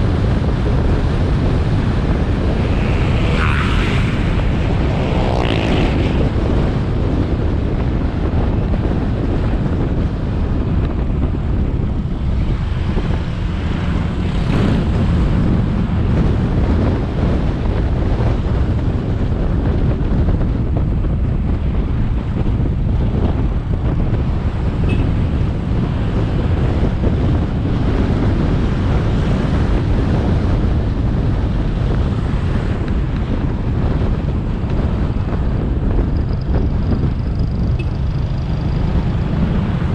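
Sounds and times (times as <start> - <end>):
motorbike engine and road noise: 0.0 - 39.9
wind buffeting microphone: 0.0 - 39.9.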